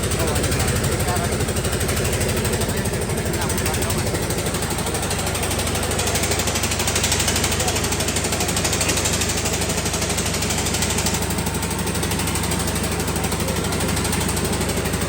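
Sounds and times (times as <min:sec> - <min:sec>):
engine chugging: 0:00.0 - 0:15.0.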